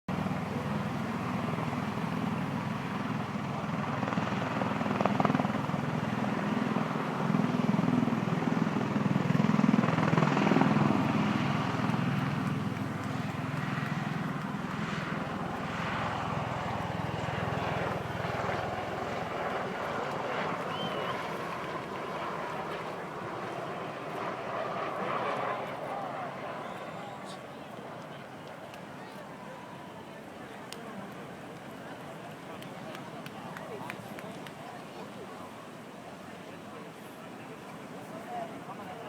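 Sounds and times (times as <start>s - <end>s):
tiltrotor aircraft rotor drone: 0.1s - 39.0s.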